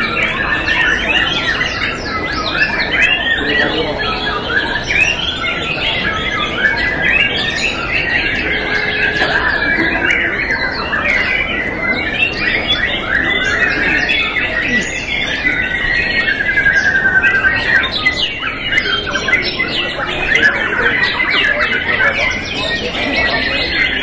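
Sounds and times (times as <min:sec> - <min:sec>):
birds singing in chorus: 0:00.0 - 0:24.0
fast bird trill: 0:00.0 - 0:24.0.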